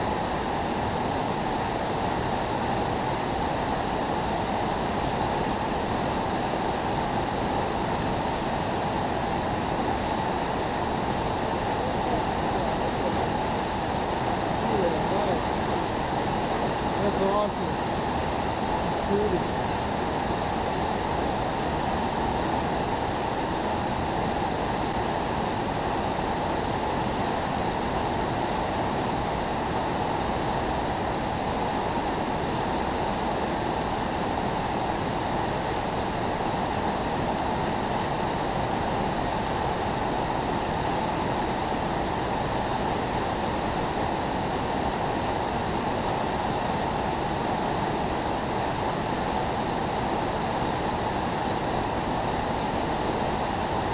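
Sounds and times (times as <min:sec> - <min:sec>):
river water rushing over spillway: 0:00.0 - 0:53.9.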